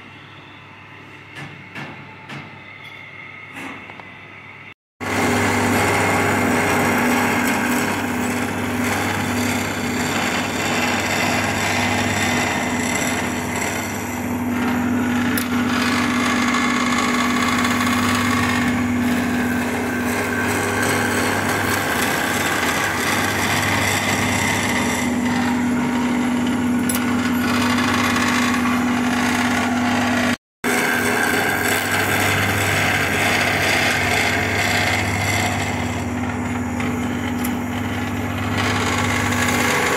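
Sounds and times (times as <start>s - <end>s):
power tool humming: 5.0s - 39.9s.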